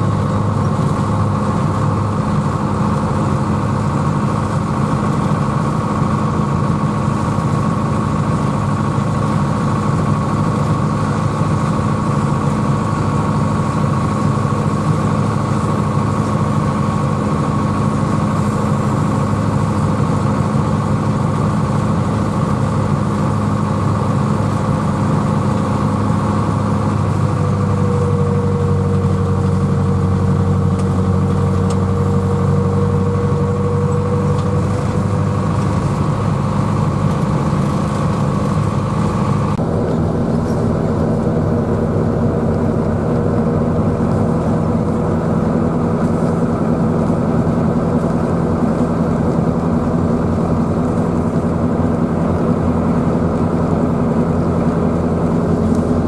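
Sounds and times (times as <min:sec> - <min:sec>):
steady high whine: 0:00.0 - 0:56.0
tractor diesel engine running: 0:00.0 - 0:56.0.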